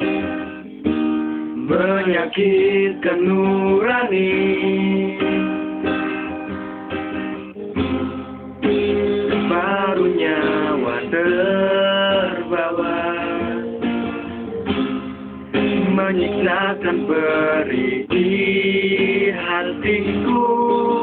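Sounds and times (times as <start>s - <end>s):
person singing: 0.0s - 5.9s, 9.3s - 14.8s, 15.6s - 21.0s
pop song with guitar: 0.0s - 21.0s.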